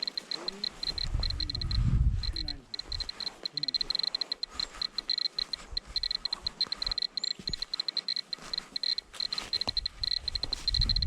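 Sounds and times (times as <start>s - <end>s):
geiger counter beeping: 0.0s - 11.0s.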